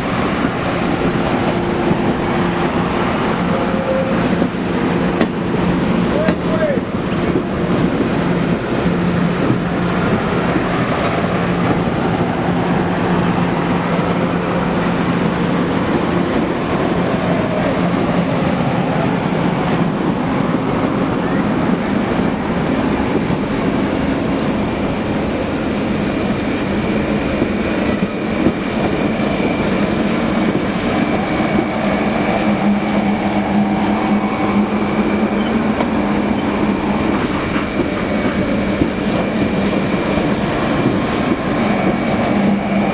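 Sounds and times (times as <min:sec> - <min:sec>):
train wheels rolling on rails: 0:00.0 - 0:42.9.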